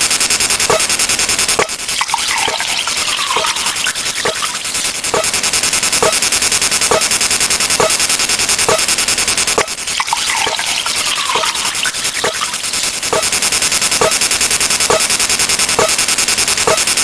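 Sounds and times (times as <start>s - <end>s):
harsh stacked sound effects: 0.0s - 17.0s.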